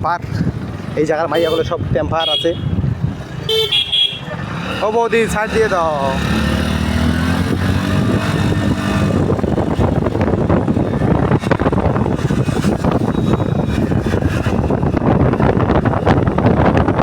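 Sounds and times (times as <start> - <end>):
wind buffeting microphone: 0.0 - 17.0
motorcycle engine running: 2.8 - 17.0.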